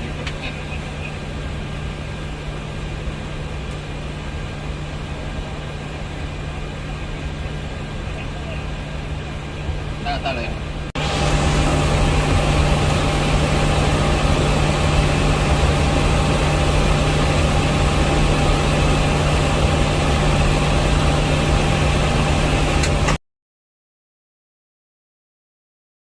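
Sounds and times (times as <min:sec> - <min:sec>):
cockpit engine drone: 0:00.0 - 0:23.2
faint steady whine: 0:00.0 - 0:23.2.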